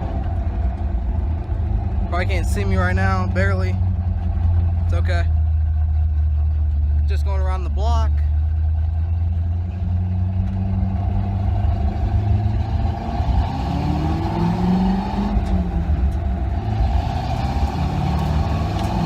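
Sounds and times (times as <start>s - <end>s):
pickup truck engine accelerating: 0.0s - 19.0s.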